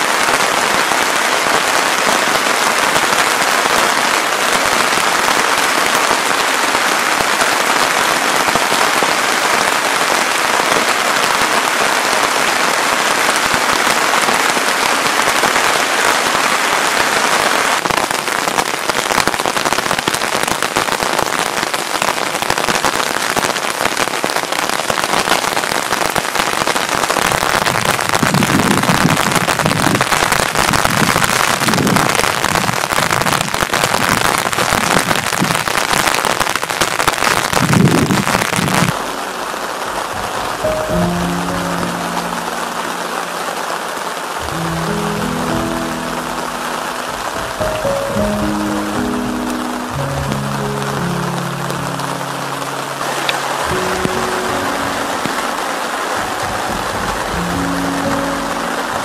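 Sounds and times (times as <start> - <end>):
heavy rain on a tarp: 0.0 - 59.0.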